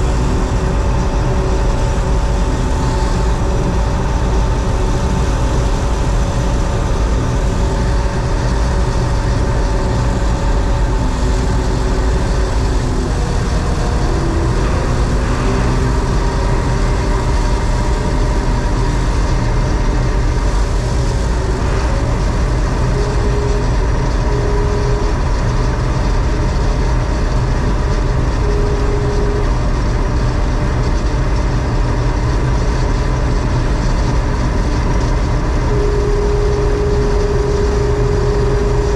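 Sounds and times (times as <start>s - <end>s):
combine engine drone: 0.0s - 38.9s
machinery whine: 0.0s - 38.9s.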